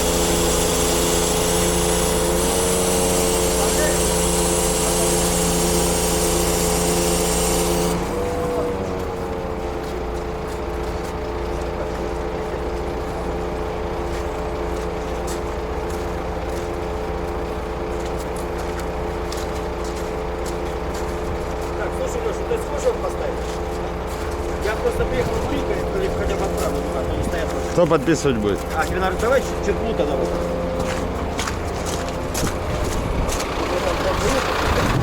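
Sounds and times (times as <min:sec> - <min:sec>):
diesel engine idling: 0:00.0 - 0:35.0
hissing running noise: 0:00.0 - 0:35.0.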